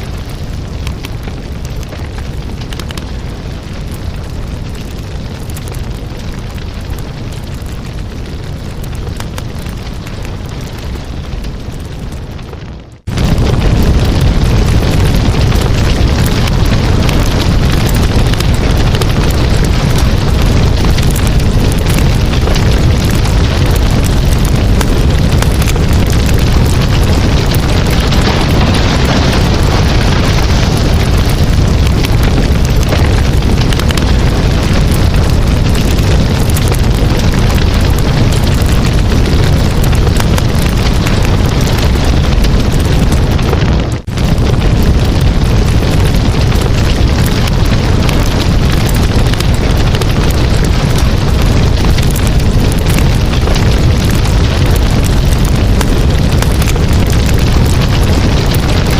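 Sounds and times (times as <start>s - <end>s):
burning wood crackling and popping: 0.0s - 58.9s
flames rushing: 0.0s - 58.9s.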